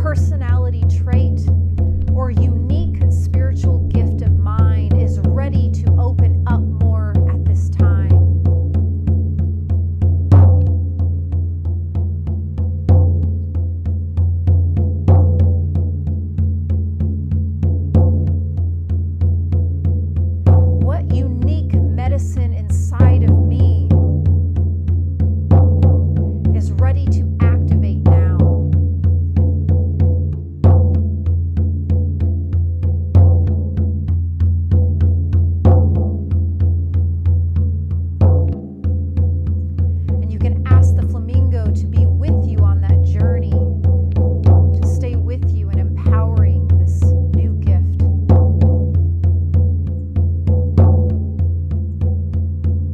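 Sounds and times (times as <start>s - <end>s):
frame drum beats: 0.0s - 52.9s.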